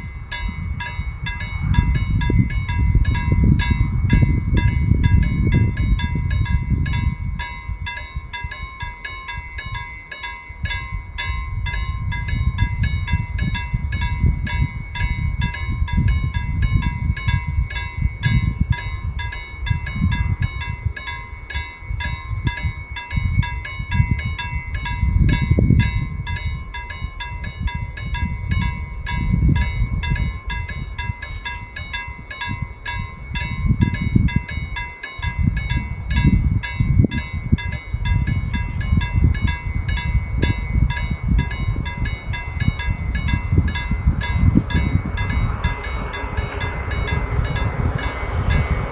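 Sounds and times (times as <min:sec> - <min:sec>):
level crossing bell ringing: 0:00.0 - 0:48.9
wind rumble on microphone: 0:00.0 - 0:48.9.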